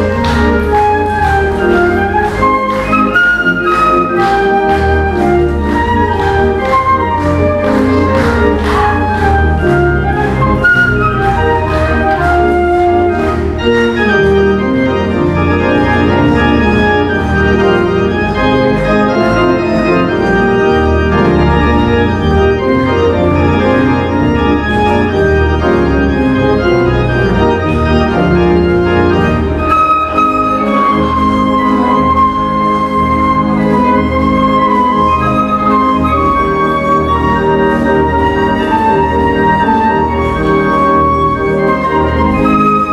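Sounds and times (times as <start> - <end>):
flute melody: 0.0 - 42.9
organ chords: 0.0 - 42.9.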